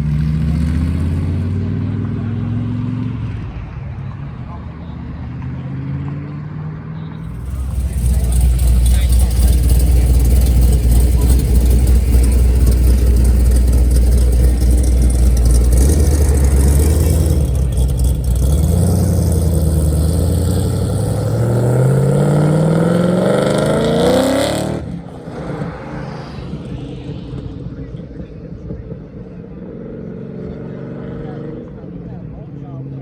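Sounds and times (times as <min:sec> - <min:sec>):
car engine revving pulling away: 0:00.0 - 0:03.4, 0:07.2 - 0:32.0.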